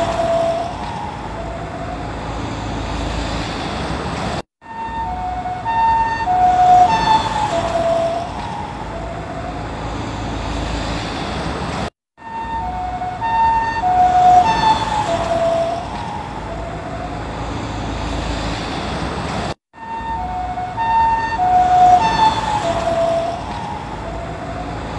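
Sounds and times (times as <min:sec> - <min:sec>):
ambulance two-tone siren passing: 0:00.0 - 0:03.7, 0:04.6 - 0:11.1, 0:12.2 - 0:18.6, 0:19.7 - 0:24.9
road traffic noise: 0:00.0 - 0:24.9.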